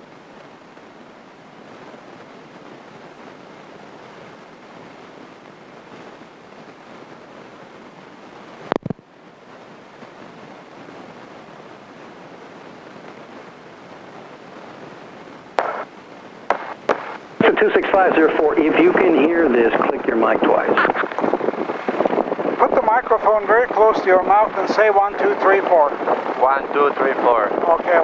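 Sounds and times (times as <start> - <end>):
cockpit noise hiss: 0.0 - 28.0.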